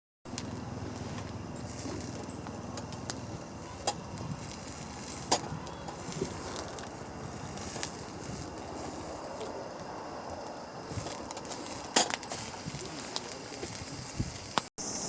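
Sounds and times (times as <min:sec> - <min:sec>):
sharp fire pops: 0:00.3 - 0:09.5, 0:10.8 - 0:14.7
campfire crackling: 0:00.3 - 0:14.7.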